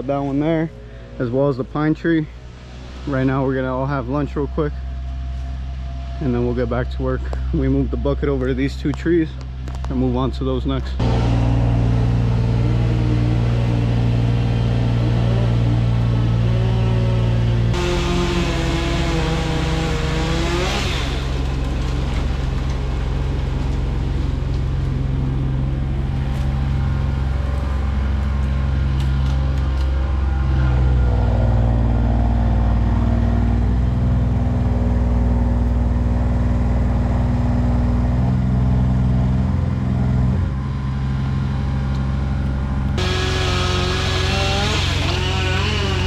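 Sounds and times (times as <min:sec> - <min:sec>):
large engine running: 0:00.0 - 0:46.0.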